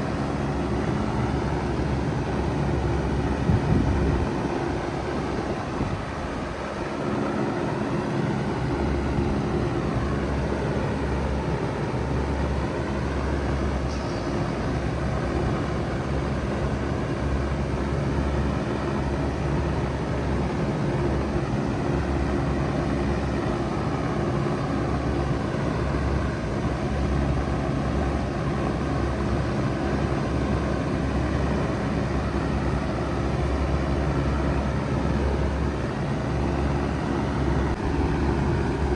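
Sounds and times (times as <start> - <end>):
fan noise: 0.0 - 38.9
heat pump humming: 0.0 - 38.9.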